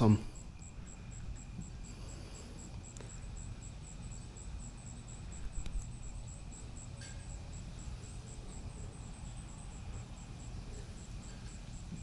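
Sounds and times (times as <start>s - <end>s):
crickets chirping: 0.0s - 12.0s
low steady rumble: 0.0s - 12.0s.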